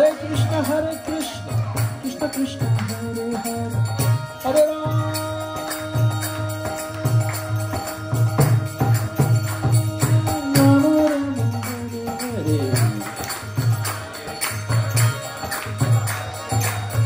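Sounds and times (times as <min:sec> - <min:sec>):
harmonium chords: 0:00.0 - 0:17.0
sharp clapping or cymbal hits: 0:00.0 - 0:17.0.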